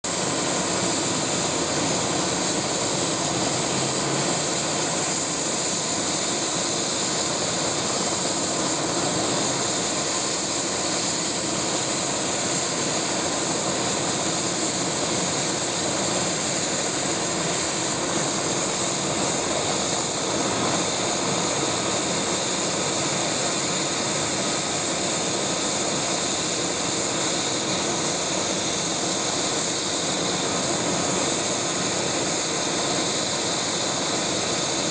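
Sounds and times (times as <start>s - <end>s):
helicopter engine whine: 0.0s - 34.9s.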